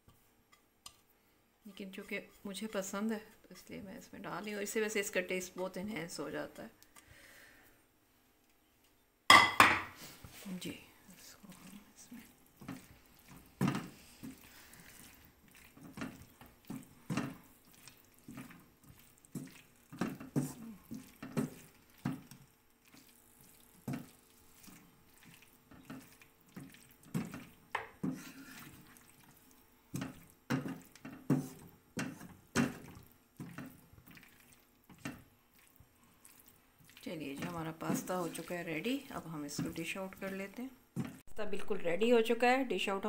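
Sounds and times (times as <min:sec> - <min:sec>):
wooden spatula scraping wok: 0:01.6 - 0:06.7, 0:09.9 - 0:41.3.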